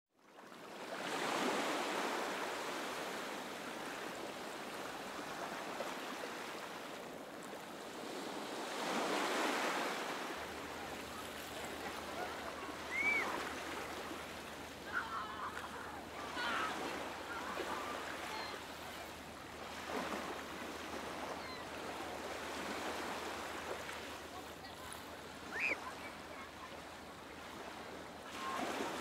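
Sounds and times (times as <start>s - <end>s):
ocean surf washing up beach: 0.6s - 29.0s.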